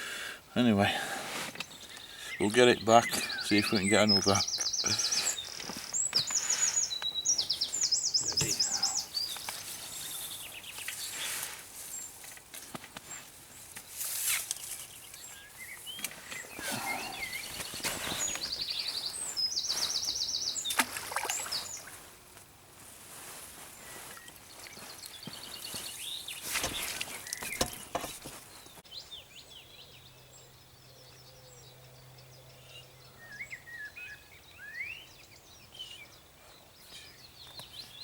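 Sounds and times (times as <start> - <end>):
steady outdoor hiss: 0.0 - 38.0
songbird singing trills: 1.6 - 12.2, 14.6 - 22.1, 23.9 - 38.0.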